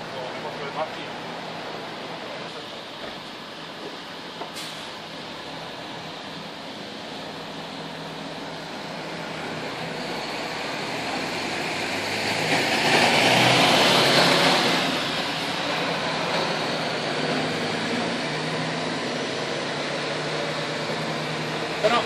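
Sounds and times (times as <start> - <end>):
diesel coach driving past: 0.0 - 22.0.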